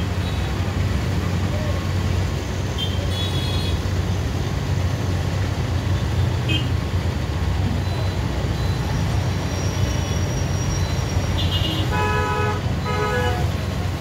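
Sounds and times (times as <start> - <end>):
traffic engines passing: 0.0 - 14.0.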